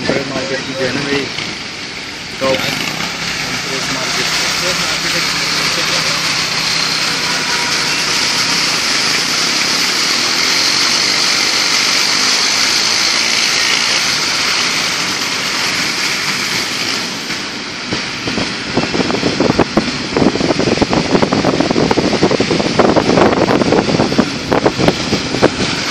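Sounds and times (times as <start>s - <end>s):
rough buffeting: 0.0s - 25.9s
water spray hissing from tyres: 0.5s - 25.9s.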